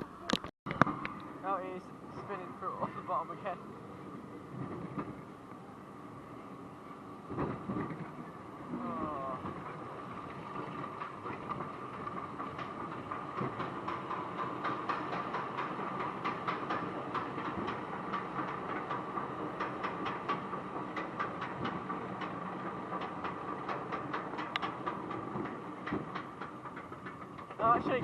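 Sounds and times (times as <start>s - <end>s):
rollercoaster hum: 0.0s - 28.0s
rollercoaster track clicks and clatters: 0.0s - 28.0s.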